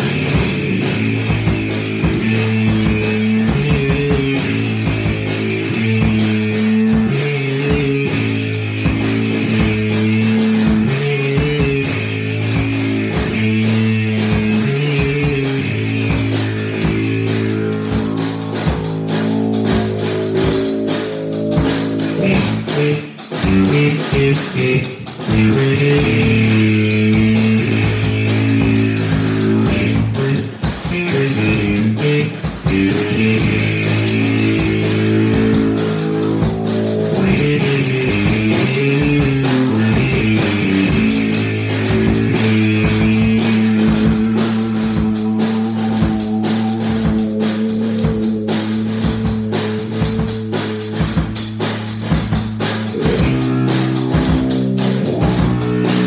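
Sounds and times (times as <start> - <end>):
drum kit with cymbals: 0.0 - 56.0
electric bass riff: 0.0 - 56.0.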